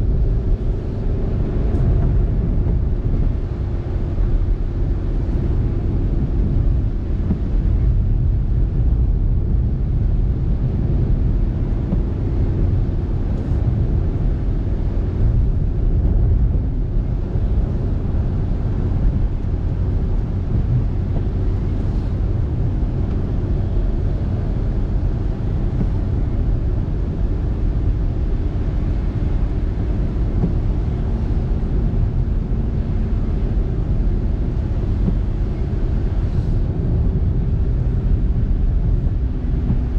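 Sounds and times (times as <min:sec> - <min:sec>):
car engine drone: 0:00.0 - 0:39.9
tyre road noise: 0:00.0 - 0:39.9.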